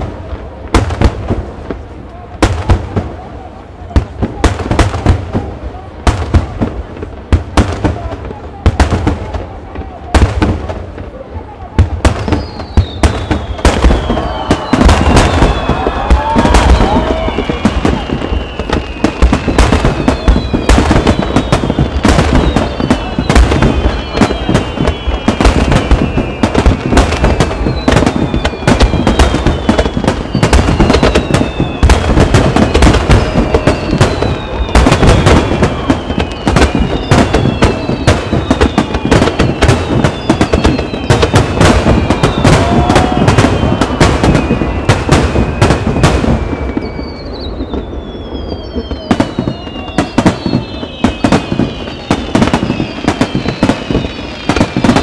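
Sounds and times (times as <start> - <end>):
fireworks bursting: 0.0 - 55.0
fireworks crackling: 0.0 - 55.0
falling firework whistles: 6.1 - 55.0.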